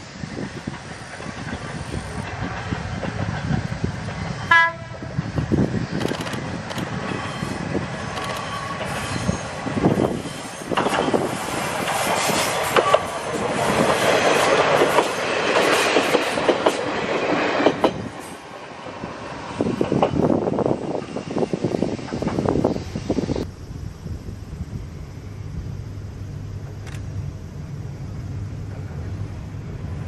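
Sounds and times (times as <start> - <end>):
diesel railcar running past: 0.0 - 30.0.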